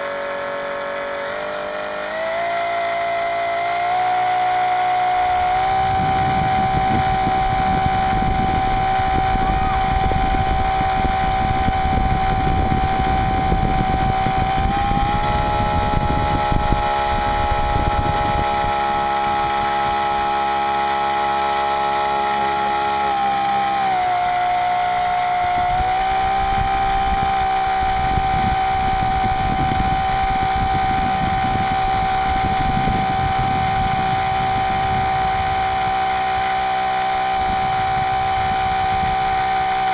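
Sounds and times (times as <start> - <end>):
model boat motor whine: 0.0 - 39.9.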